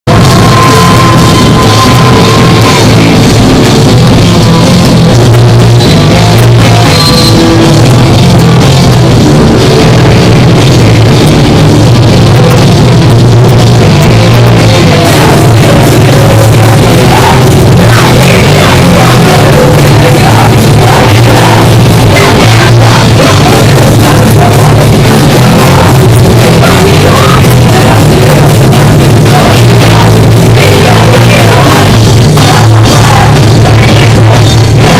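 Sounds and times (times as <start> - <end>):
punk rock band playing live: 0.1 - 34.9.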